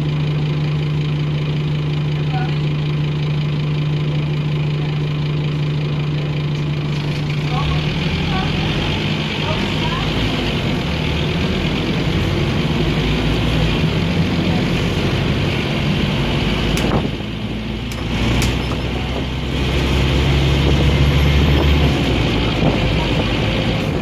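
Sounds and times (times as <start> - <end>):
bus engine hum from inside: 0.0 - 24.0.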